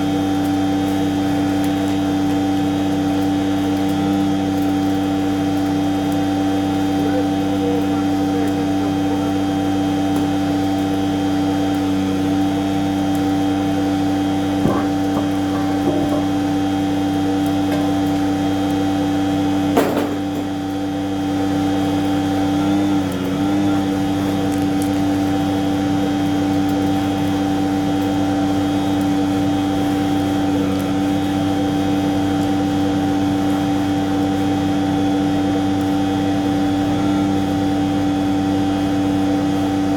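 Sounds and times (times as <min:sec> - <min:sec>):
truck machinery humming: 0:00.0 - 0:39.9.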